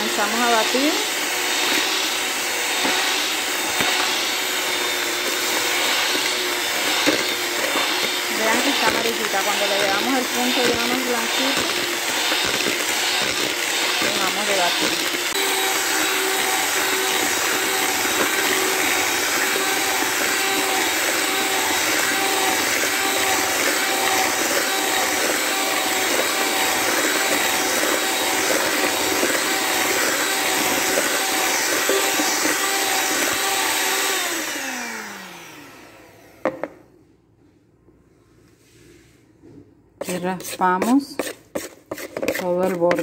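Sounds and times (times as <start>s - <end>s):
mixer motor winding down: 0.0s - 36.4s
electric hand mixer running: 0.0s - 36.8s.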